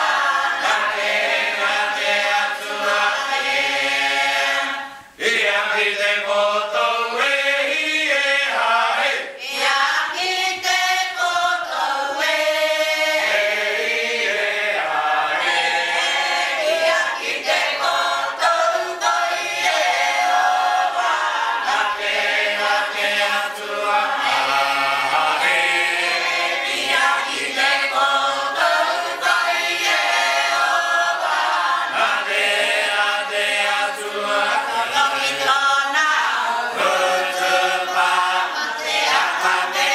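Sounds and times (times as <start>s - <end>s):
choir singing a cappella hymn: 0.0s - 39.9s.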